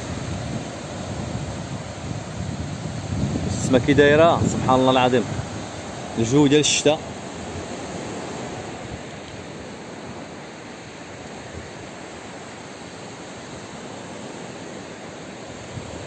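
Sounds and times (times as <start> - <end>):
surf washing up a beach: 0.0 - 16.0.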